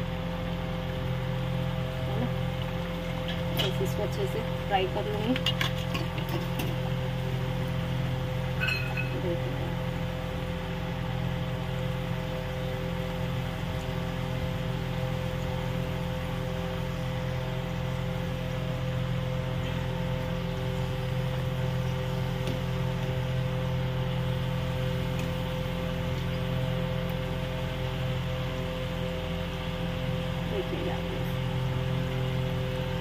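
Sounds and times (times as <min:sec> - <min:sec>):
oil sizzling and bubbling: 0:00.0 - 0:30.4
low mechanical hum: 0:00.0 - 0:33.0.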